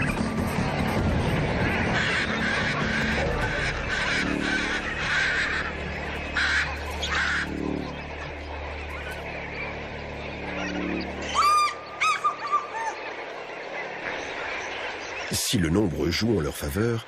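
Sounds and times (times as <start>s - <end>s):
goose-like honking of birds: 1.3s - 15.0s.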